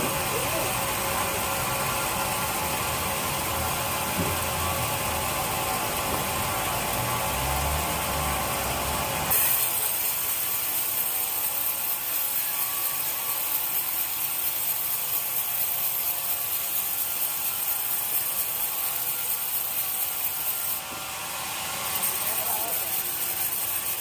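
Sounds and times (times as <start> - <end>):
power saw cutting wood: 0.0 - 24.0.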